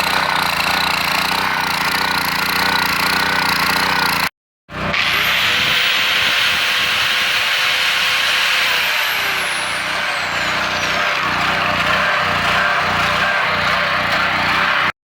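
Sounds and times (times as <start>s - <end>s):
small generator engine surging: 0.0s - 15.0s.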